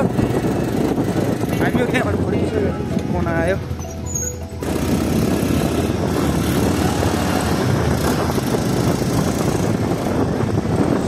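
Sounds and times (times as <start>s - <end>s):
motorcycle engine running: 0.0s - 3.0s, 4.4s - 11.0s
wind noise on microphone: 0.0s - 11.0s.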